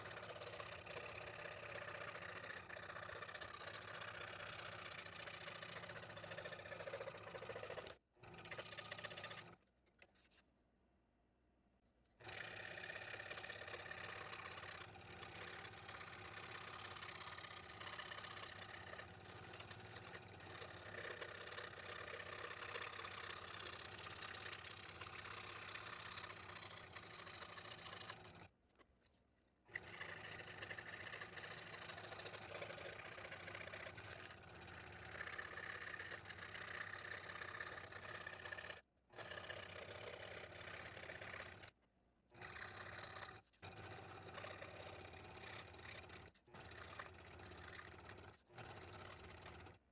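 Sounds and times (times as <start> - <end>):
scroll saw cutting wood: 0.0 - 9.6, 12.2 - 28.6, 29.7 - 49.9.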